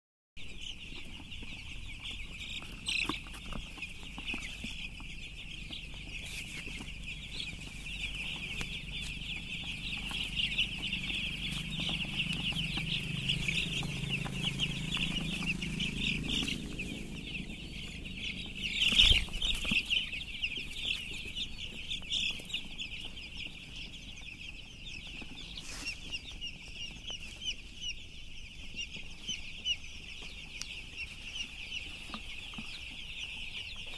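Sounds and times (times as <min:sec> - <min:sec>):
chicks peeping: 0:00.4 - 0:33.9.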